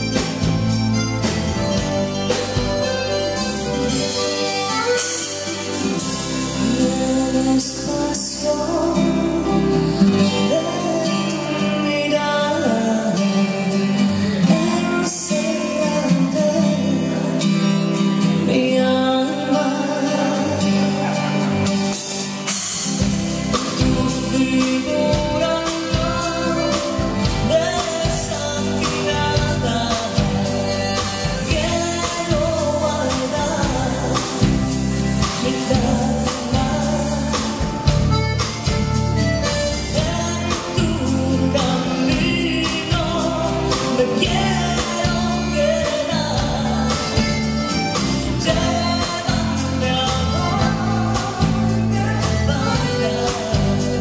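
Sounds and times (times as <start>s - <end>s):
piano accordion: 0.0s - 16.4s, 20.3s - 54.0s
bass: 0.0s - 54.0s
strummed acoustic guitar: 0.0s - 54.0s
woman singing: 4.0s - 22.0s, 22.7s - 38.4s, 39.7s - 54.0s.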